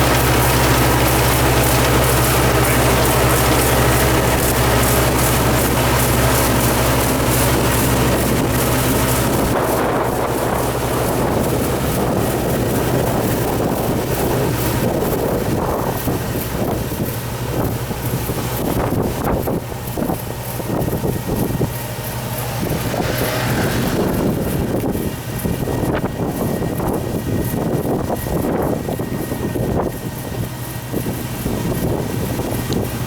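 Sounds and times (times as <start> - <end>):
farm machine engine running: 0.0 - 33.0
wind buffeting microphone: 0.0 - 33.0.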